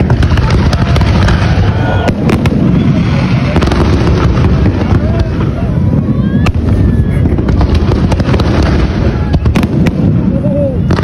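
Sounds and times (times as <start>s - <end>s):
fireworks rumbling and bursting: 0.0s - 11.0s
sharp firework cracks: 0.0s - 11.0s.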